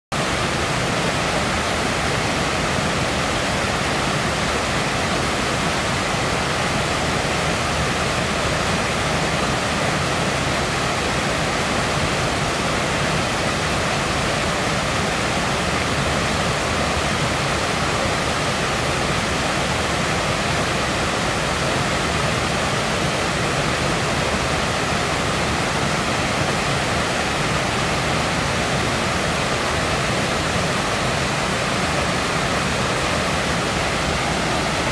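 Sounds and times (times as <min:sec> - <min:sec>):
stream rushing over a drop: 0:00.1 - 0:34.9.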